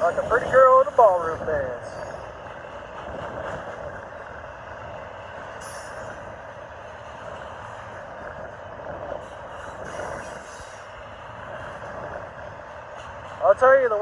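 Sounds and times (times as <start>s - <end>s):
freight cars rolling past: 0.0s - 14.0s.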